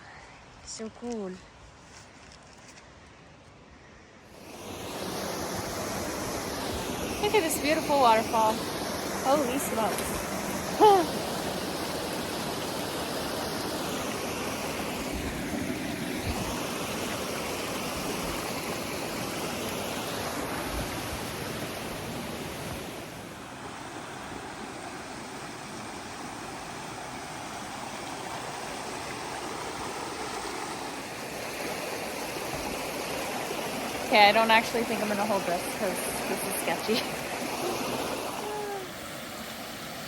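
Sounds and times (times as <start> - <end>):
waterfall rushing: 4.4 - 26.4, 27.7 - 40.0.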